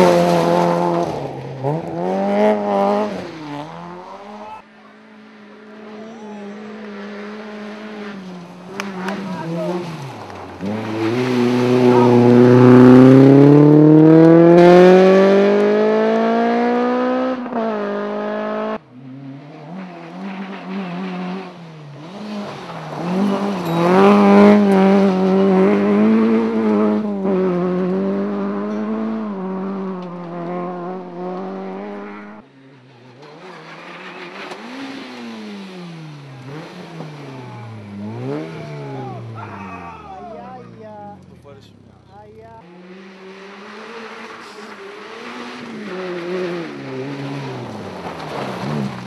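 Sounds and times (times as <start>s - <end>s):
rally car engines at full throttle: 0.0s - 49.0s.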